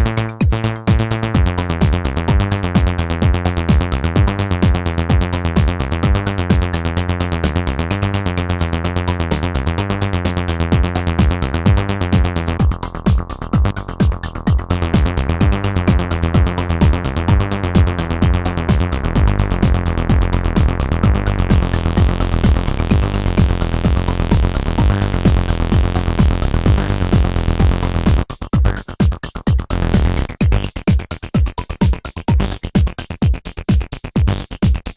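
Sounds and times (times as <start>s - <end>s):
acid synthesizer bassline: 0.0s - 34.9s
electronic drum beat: 0.0s - 34.9s.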